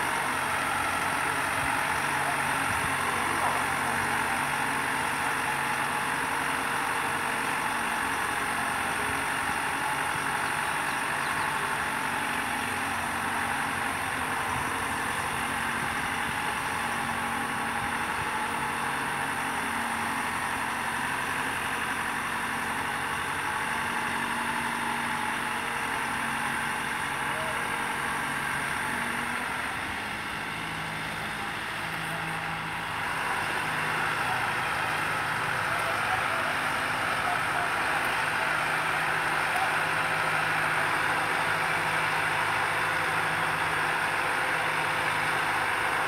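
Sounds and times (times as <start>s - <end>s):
boat hoist engine running: 0.0s - 46.0s.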